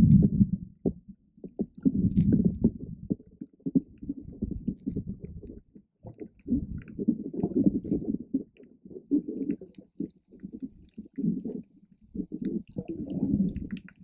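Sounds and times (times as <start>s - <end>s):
muffled underwater water sloshing: 0.0s - 14.0s.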